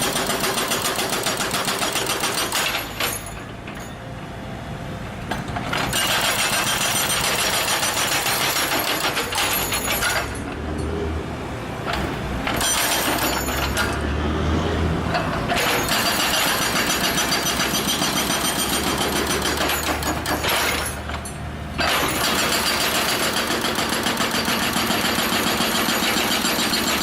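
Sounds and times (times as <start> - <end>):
hydraulic breaker hammering: 0.0 - 4.0, 5.2 - 10.9, 11.9 - 14.1, 15.1 - 27.0
excavator engine running: 0.0 - 27.0.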